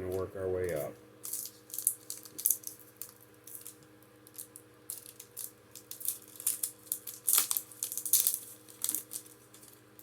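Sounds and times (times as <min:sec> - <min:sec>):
foil pack crinkling: 0:00.0 - 0:10.0.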